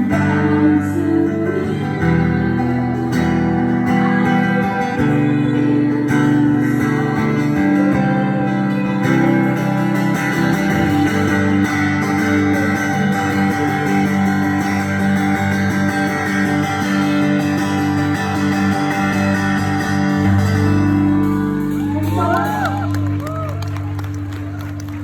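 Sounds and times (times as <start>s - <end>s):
live band guitar music: 0.0s - 25.0s.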